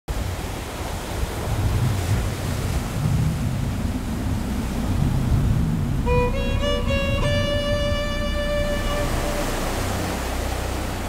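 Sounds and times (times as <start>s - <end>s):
rushing wind: 0.1s - 11.0s
sea noise: 0.1s - 11.0s
low rumble: 1.5s - 11.0s.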